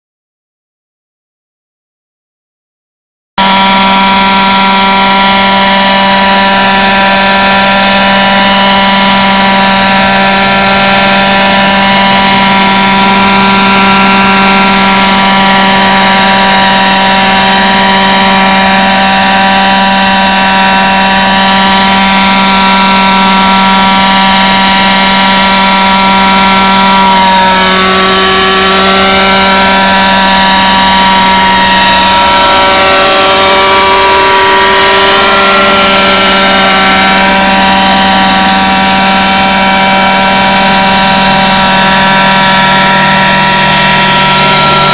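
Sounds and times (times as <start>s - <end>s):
model helicopter engine and rotor drone: 3.4s - 44.9s.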